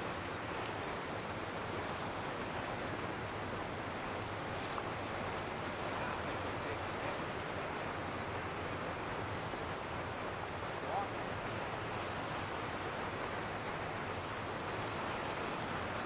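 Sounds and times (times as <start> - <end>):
small waves washing: 0.0 - 16.0.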